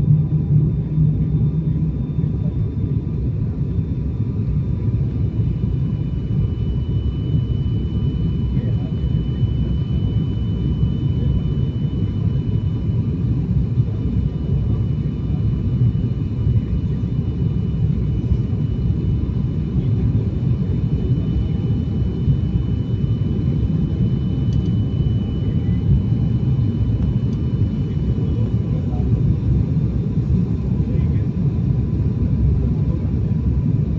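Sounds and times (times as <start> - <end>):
airliner cabin engine rumble: 0.0 - 33.9
faint high whine: 1.1 - 29.0.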